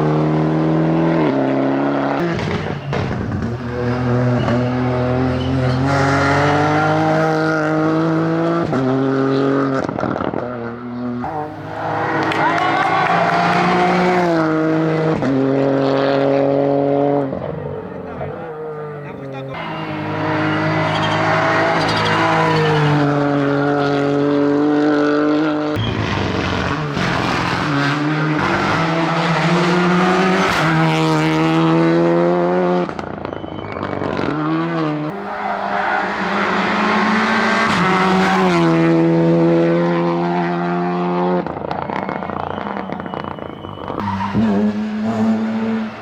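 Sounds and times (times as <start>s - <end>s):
rally car engine shifting gears: 0.0s - 46.0s.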